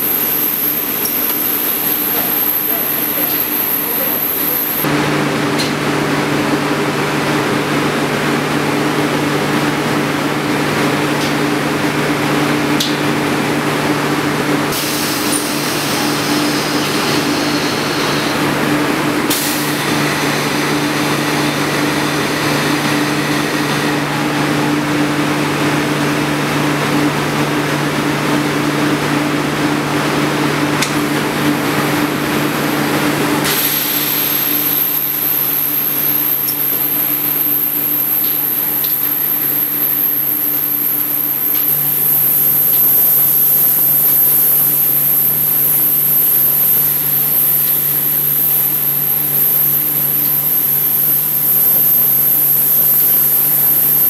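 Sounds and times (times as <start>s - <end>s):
machine hum with two low tones: 0.0s - 54.0s.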